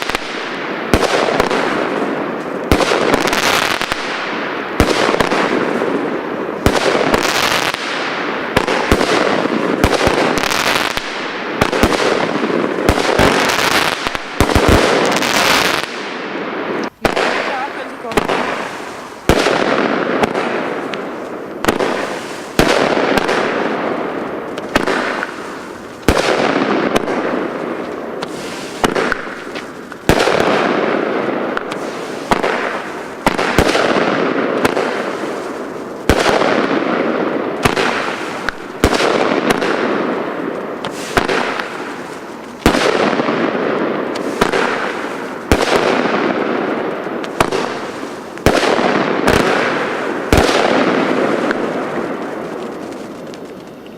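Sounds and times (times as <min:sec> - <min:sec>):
firework shots firing: 0:00.0 - 0:53.9.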